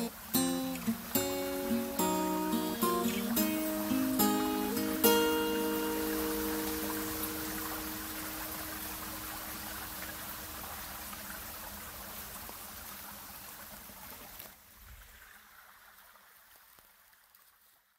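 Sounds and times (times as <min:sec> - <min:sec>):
running water trickle: 0:00.0 - 0:17.9.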